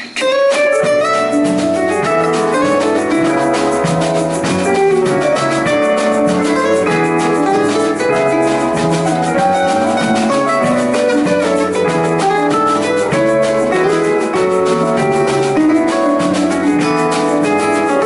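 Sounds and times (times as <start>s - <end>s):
acoustic and electric guitars: 0.0s - 18.0s
drum kit: 0.0s - 18.0s
hand shaker rhythm: 0.0s - 18.0s
keyboard: 0.0s - 18.0s.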